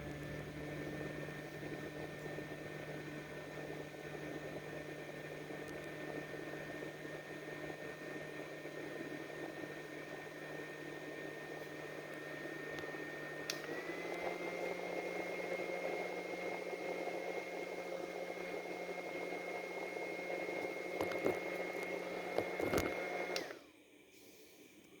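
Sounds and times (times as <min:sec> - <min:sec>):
handheld fan motor whine: 0:00.0 - 0:23.6.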